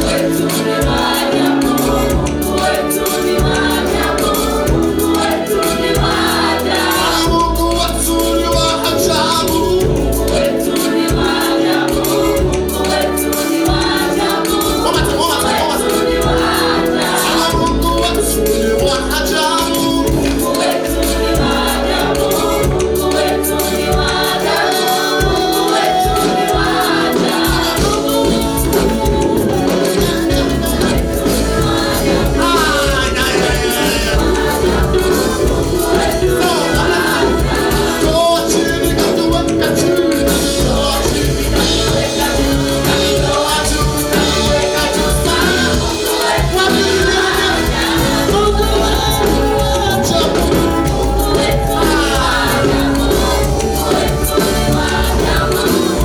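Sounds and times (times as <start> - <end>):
gospel choir singing with band: 0.0 - 56.0.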